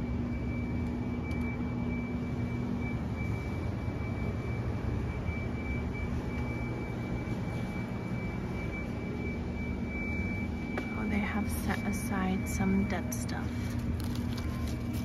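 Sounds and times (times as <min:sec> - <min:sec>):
store background hum: 0:00.0 - 0:15.0.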